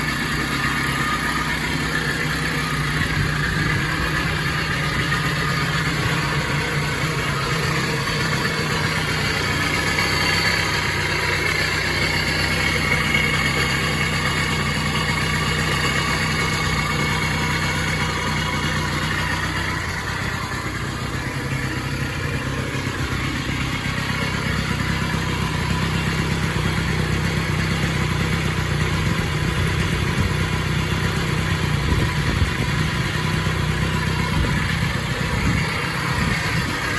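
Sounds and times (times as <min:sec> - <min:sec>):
moped engine idling: 0:00.0 - 0:36.9.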